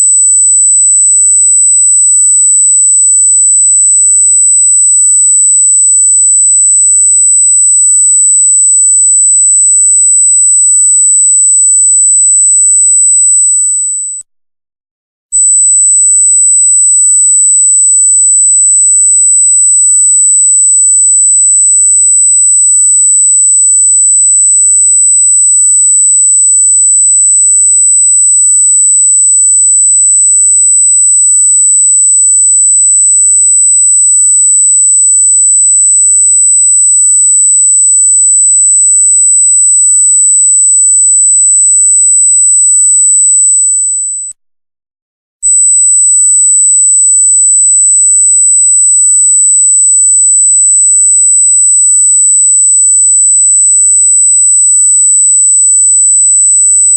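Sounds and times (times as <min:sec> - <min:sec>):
high-pitched electronic sine tone: 0:00.0 - 0:14.3, 0:15.4 - 0:44.4, 0:45.4 - 0:56.9.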